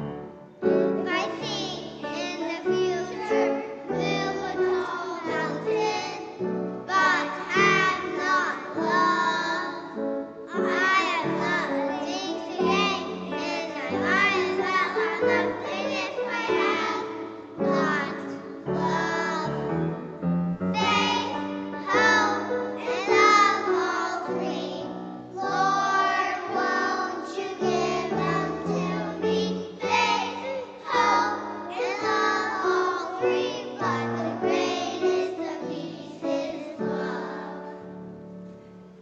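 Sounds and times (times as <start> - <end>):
children's choir singing: 0.0 - 38.4
instrumental accompaniment: 0.0 - 39.0.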